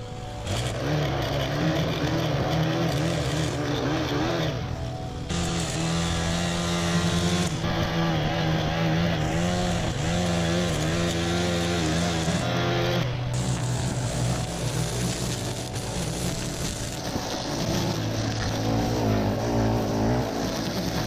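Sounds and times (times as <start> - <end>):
blade cutting along concrete edge: 0.0 - 21.0
lawn edger engine running hard: 0.0 - 21.0.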